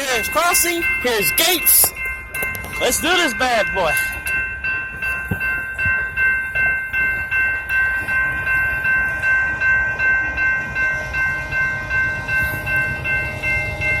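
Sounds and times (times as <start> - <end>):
approaching train rumble: 0.0 - 14.0
crossing warning bell ringing: 0.0 - 14.0.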